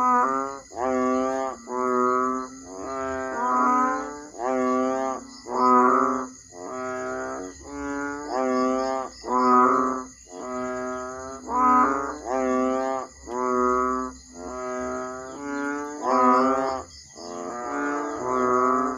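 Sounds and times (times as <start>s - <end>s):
frogs calling low and nasal: 0.0s - 18.9s.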